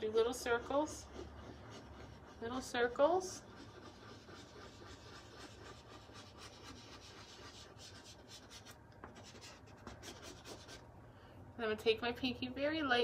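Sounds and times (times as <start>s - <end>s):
pastel scratching on paper: 0.0s - 10.9s.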